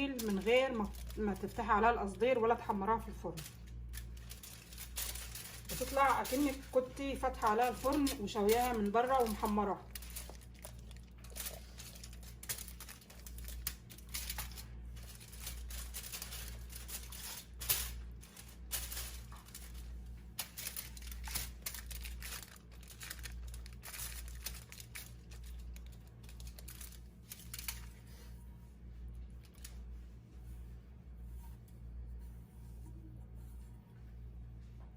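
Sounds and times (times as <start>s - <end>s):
aluminium foil crinkling: 0.0s - 30.2s
low steady hum: 0.0s - 34.9s.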